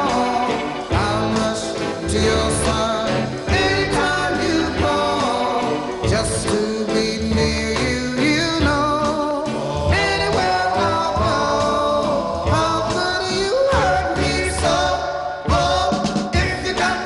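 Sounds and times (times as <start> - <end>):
pop song with singer and band: 0.0 - 17.0.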